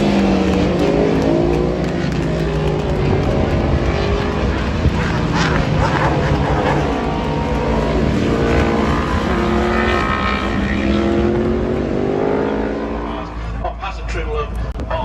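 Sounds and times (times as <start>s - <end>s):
racing motorcycles passing: 0.0s - 13.6s.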